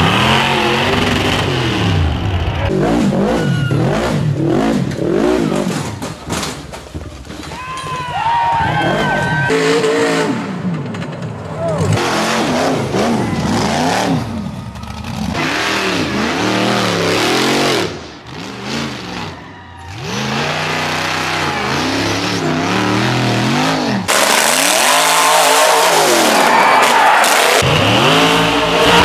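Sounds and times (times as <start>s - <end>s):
buggy engines revving: 0.0s - 29.0s.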